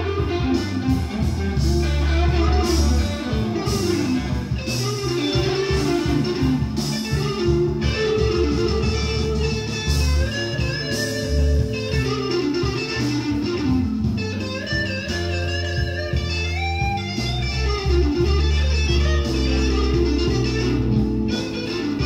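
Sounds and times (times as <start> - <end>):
bass line: 0.0 - 22.0
electric guitar with bent notes: 0.0 - 22.0.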